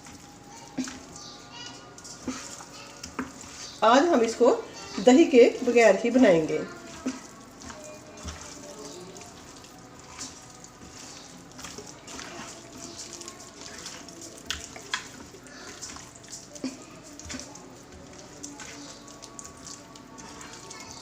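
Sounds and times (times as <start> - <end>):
wet squelching and sloshing: 0.0 - 21.0.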